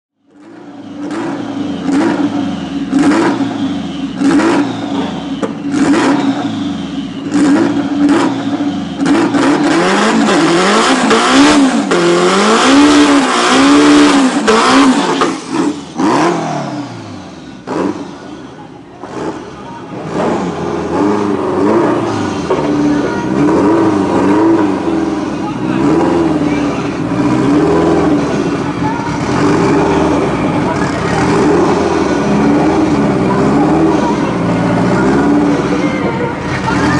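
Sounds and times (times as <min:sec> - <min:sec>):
car engine revving hard: 0:00.4 - 0:36.9.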